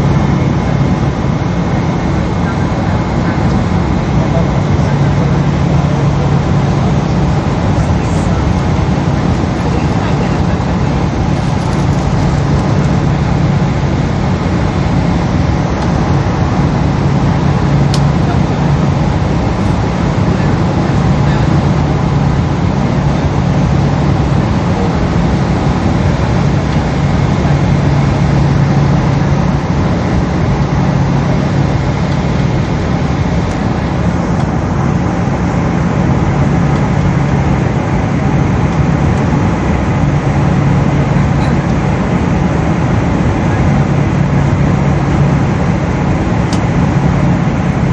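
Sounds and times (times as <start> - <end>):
airliner cabin engine roar: 0.0 - 47.9.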